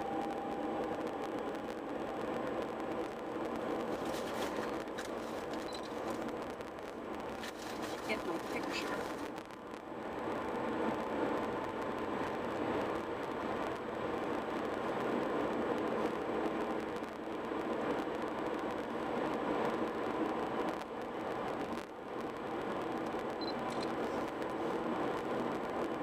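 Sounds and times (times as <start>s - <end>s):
car road noise: 0.0s - 26.0s.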